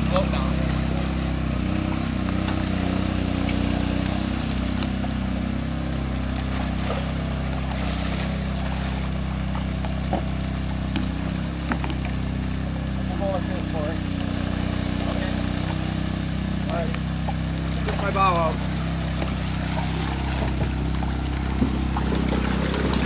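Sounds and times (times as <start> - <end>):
engine running at low speed: 0.0 - 23.0.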